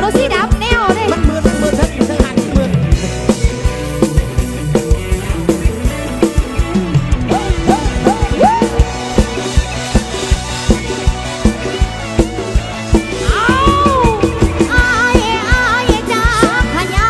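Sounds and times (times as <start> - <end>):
drum kit beat: 0.0 - 17.0
heavy bass: 0.0 - 17.0.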